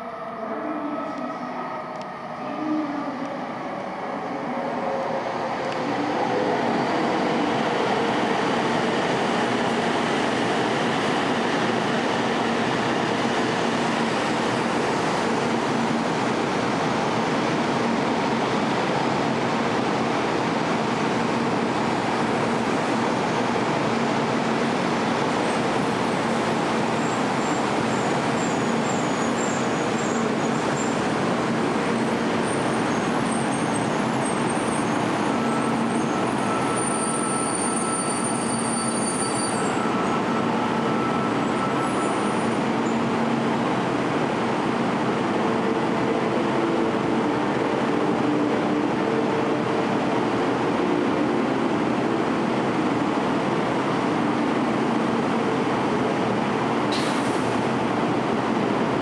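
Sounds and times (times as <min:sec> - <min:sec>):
train rushing and rolling: 0:00.0 - 0:59.0.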